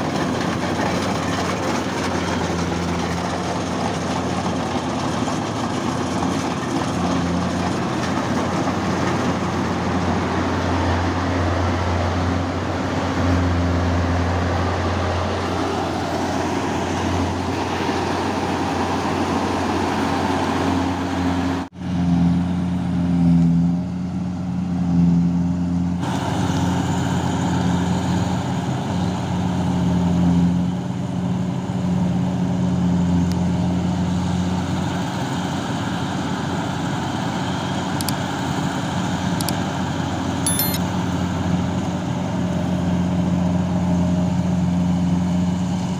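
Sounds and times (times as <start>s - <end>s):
farm machinery engine running: 0.0s - 45.9s.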